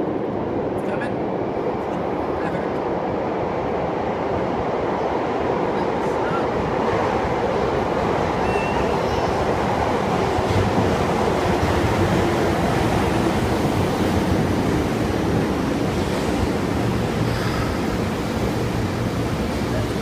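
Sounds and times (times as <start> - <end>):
train wheels and motors rumbling: 0.0 - 20.0.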